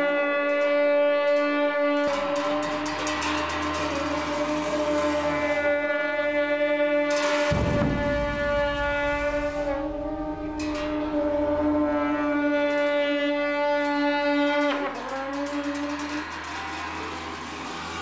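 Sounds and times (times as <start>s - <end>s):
reedy wind instrument notes: 0.0s - 18.0s.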